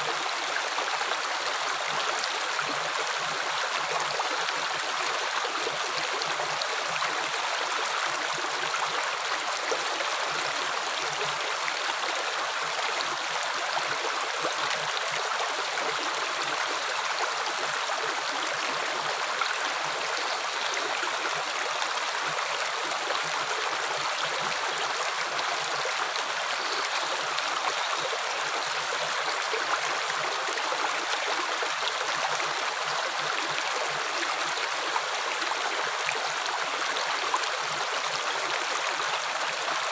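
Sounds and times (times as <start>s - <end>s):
running water stream: 0.0s - 39.9s.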